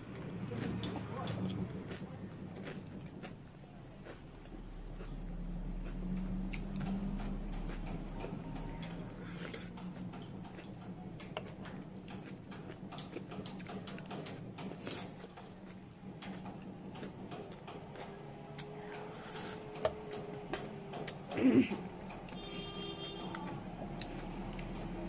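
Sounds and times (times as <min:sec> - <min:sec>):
chewing crisp food: 0:00.0 - 0:25.0.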